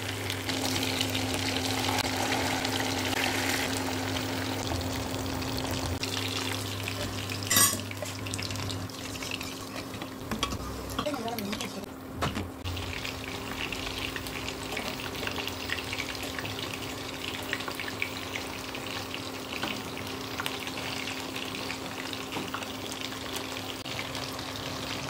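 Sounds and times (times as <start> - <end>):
food sizzling in hot oil: 0.0 - 11.8, 12.6 - 25.0.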